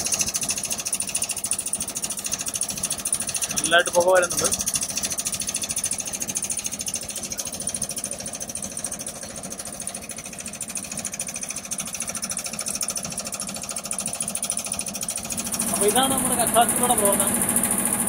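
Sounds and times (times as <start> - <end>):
fast mechanical rattle: 0.0 - 18.0.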